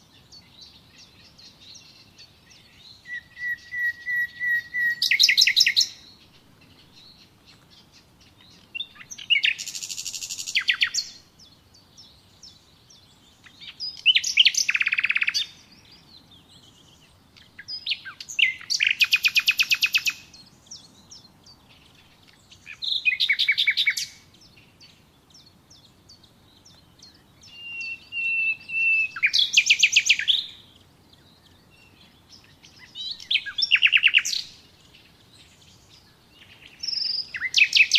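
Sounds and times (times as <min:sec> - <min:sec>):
songbird chirps and trills: 0:00.0 - 0:37.9.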